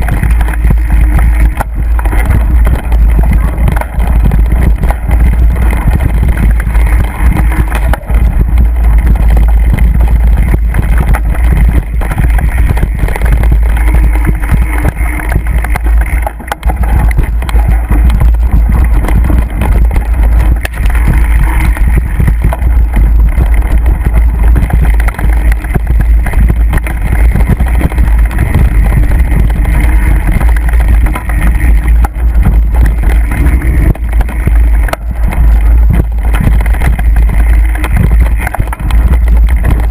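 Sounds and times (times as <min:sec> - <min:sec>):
bike tyre and rattle noise: 0:00.0 - 0:39.9
wind buffeting microphone: 0:00.0 - 0:39.9.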